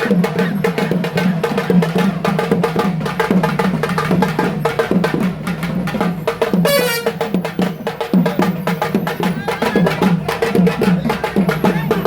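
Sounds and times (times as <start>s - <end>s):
drums beaten in fast rhythm: 0.0s - 12.0s.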